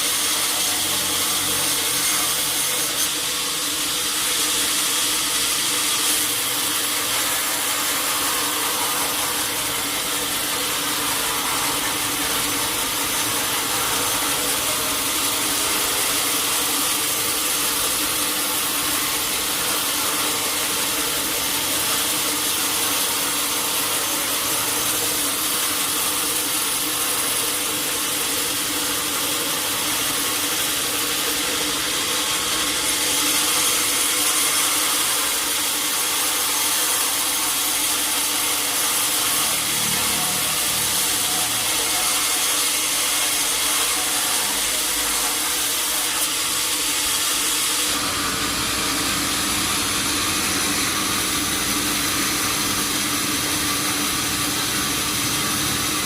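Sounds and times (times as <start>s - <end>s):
saw running with hiss and hum: 0.0s - 56.0s.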